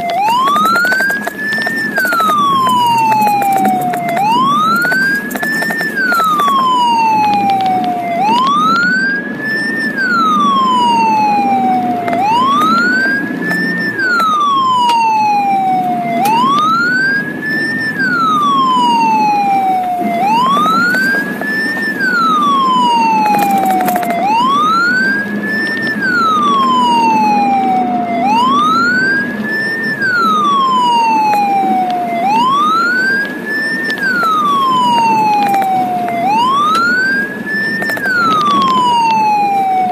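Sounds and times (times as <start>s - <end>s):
ambulance siren wailing: 0.0s - 39.9s
road noise: 0.0s - 39.9s
vehicle engine: 0.0s - 39.9s.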